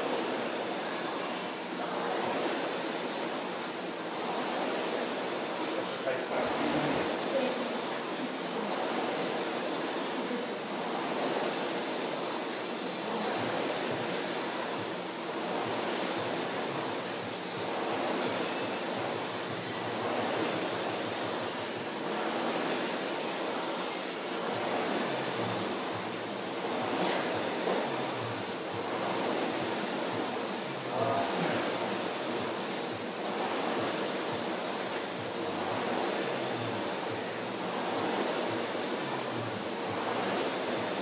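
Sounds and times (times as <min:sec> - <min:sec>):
rowing machine fan whooshing: 0:00.0 - 0:41.0.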